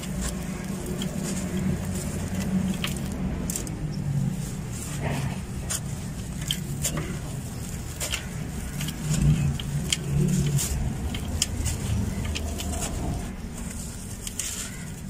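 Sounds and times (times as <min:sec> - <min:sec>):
gritty crunching of crumbling cement: 0:00.0 - 0:15.0.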